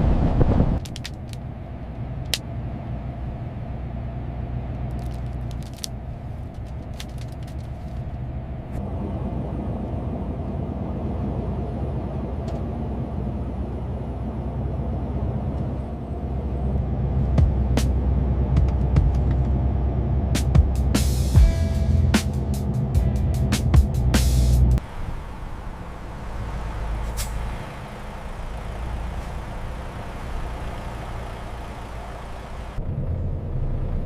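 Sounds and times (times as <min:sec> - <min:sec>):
truck engine rumbling: 0:00.0 - 0:34.0.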